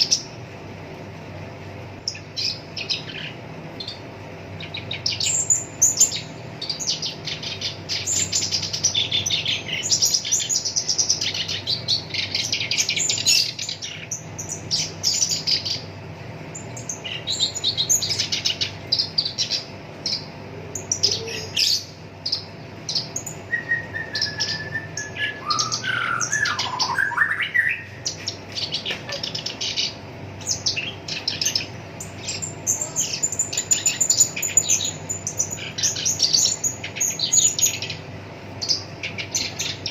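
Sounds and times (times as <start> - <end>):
reed warbler singing: 0.0 - 0.4, 2.0 - 39.9
faint steady hum: 0.0 - 39.9.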